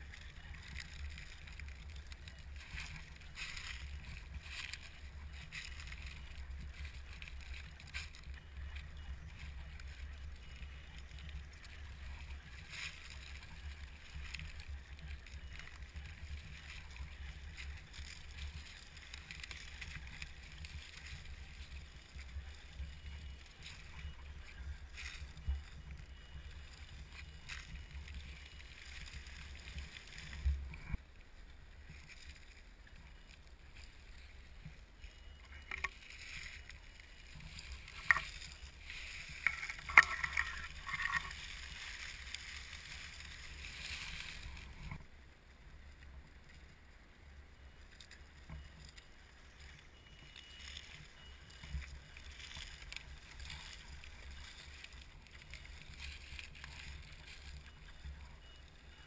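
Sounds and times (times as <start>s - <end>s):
leaves crunching under tyres: 0.0s - 59.0s.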